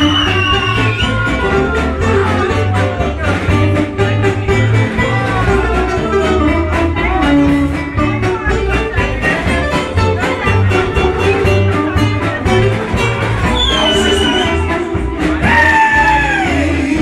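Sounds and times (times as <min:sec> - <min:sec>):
live dance band music: 0:00.0 - 0:17.0.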